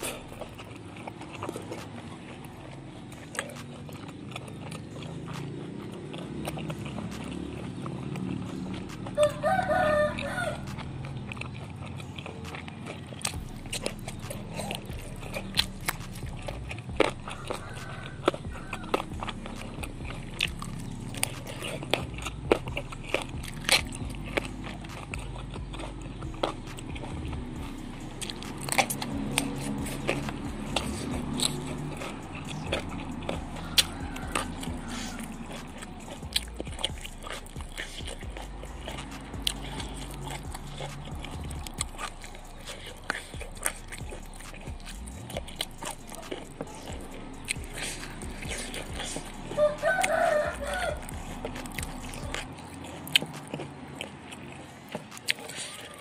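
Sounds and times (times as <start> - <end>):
crunchy vegetables being bitten: 0.0 - 56.0
wet chewing: 0.0 - 56.0.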